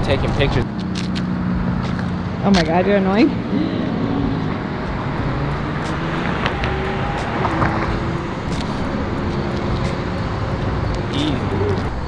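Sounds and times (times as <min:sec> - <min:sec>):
passing cars traffic noise: 0:00.0 - 0:12.0.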